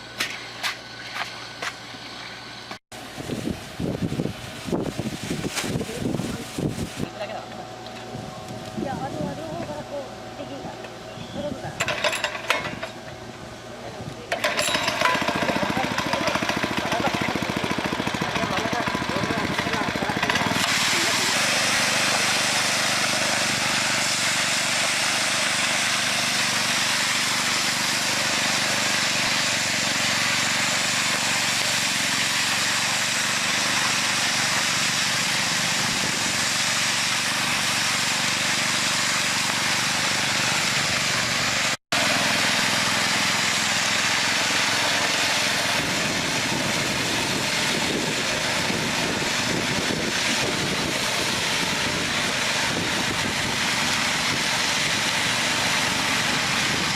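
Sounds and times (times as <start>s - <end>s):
engine running: 0.0s - 56.9s.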